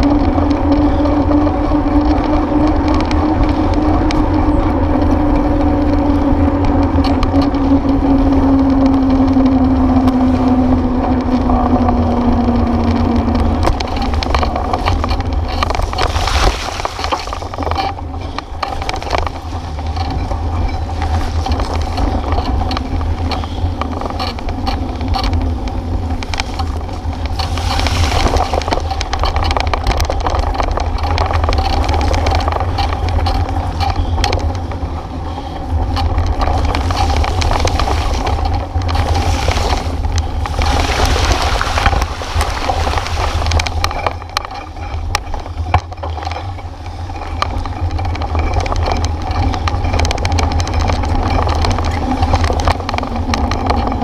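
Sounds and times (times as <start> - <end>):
bicycle rattling on rough road: 0.0 - 54.0
wind rumbling on microphone: 0.0 - 54.0.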